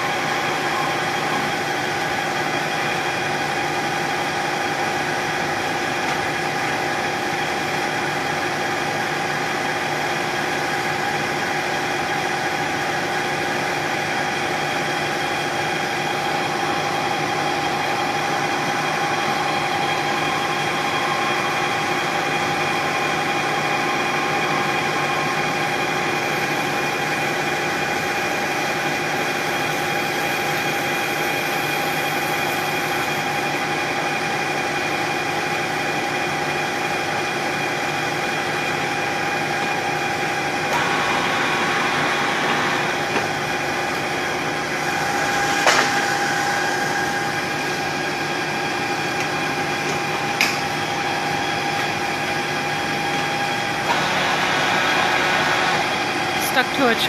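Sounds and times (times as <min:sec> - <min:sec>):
machine tool motor hum and whine: 0:00.0 - 0:56.9.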